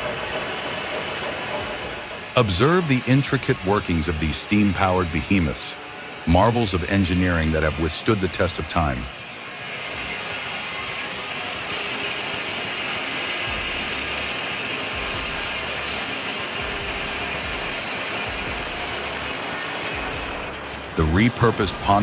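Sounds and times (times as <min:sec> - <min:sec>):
steam machinery hissing: 0:00.0 - 0:22.0.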